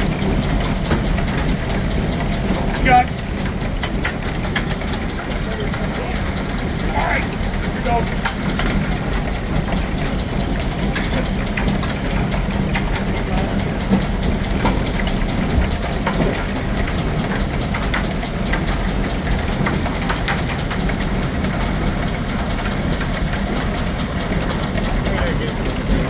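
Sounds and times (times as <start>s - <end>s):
sawmill running: 0.0s - 26.0s.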